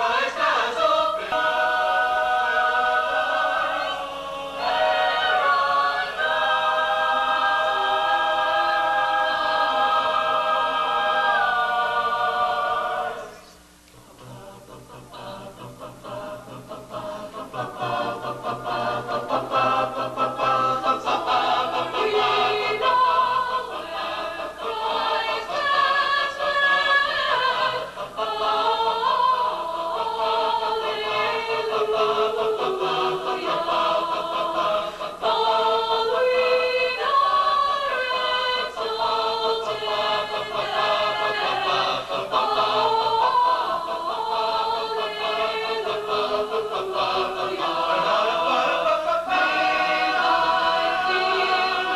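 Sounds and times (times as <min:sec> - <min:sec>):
choir singing: 0:00.0 - 0:51.9.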